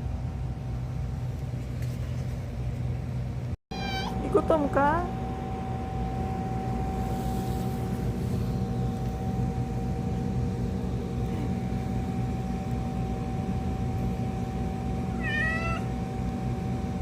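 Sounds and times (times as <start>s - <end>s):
mechanical hum with high whine: 0.0s - 17.0s.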